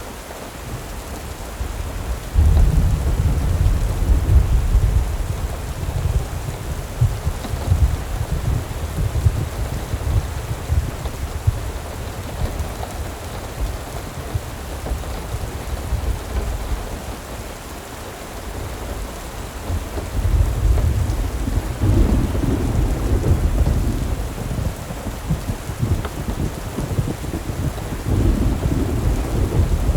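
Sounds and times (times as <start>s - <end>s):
rain hissing: 0.0s - 29.9s.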